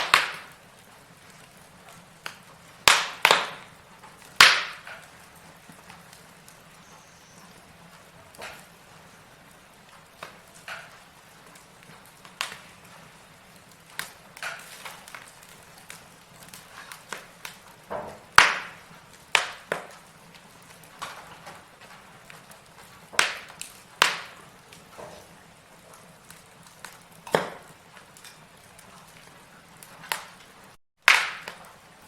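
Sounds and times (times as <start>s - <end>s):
burning logs crackling: 0.0s - 32.0s.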